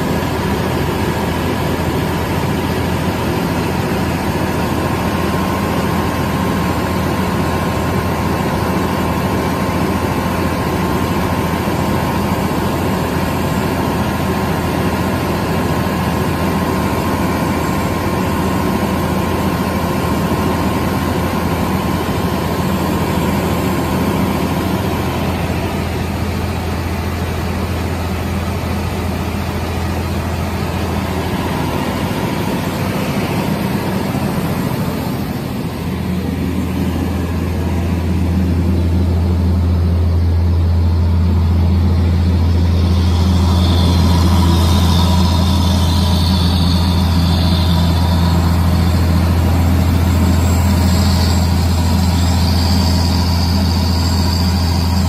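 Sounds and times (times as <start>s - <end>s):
diesel engine driving fire pump: 0.0s - 55.0s.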